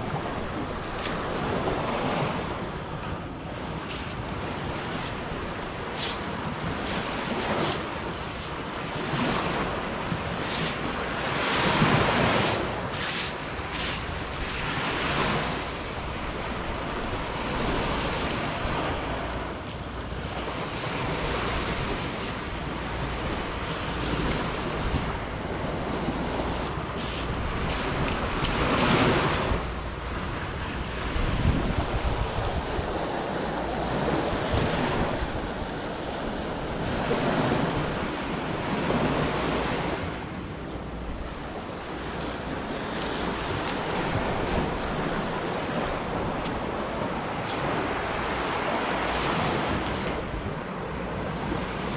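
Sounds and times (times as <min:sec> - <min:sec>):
surf washing onto beach: 0:00.0 - 0:51.9
wind rumbling on microphone: 0:00.0 - 0:51.9.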